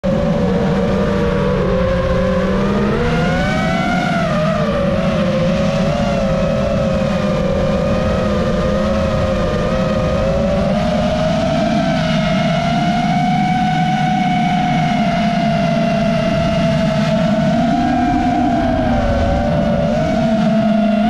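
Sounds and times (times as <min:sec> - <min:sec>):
wind rumble on microphone: 0:00.0 - 0:21.0
drone motors whining: 0:00.1 - 0:21.0.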